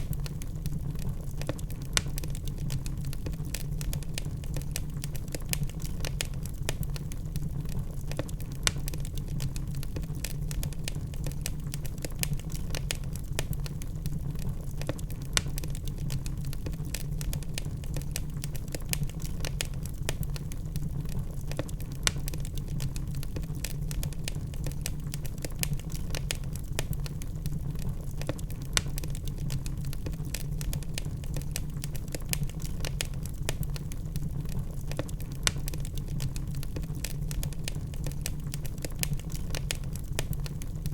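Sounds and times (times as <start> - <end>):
fire rumbling: 0.0 - 40.9
logs crackling and popping: 0.0 - 40.9.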